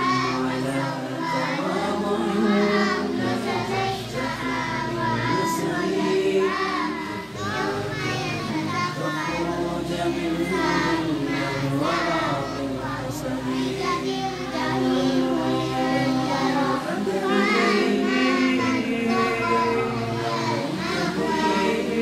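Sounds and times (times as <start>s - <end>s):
backing music with low chords: 0.0s - 22.0s
children singing: 0.0s - 22.0s.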